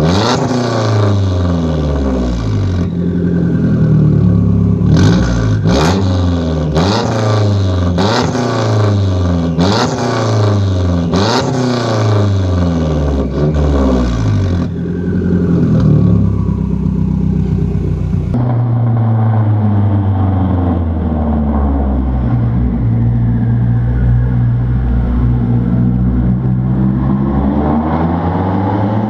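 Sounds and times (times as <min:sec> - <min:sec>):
car engine revving and idling: 0:00.0 - 0:29.0.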